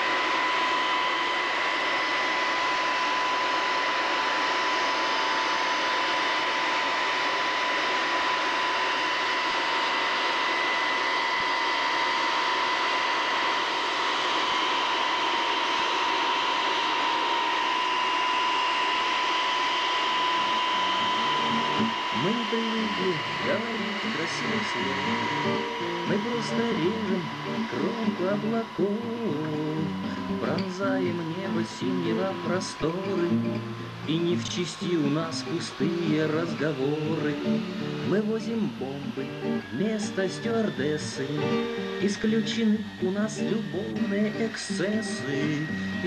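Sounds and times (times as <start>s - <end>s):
jet engine noise: 0.0s - 46.0s
steady high whine: 0.0s - 46.0s.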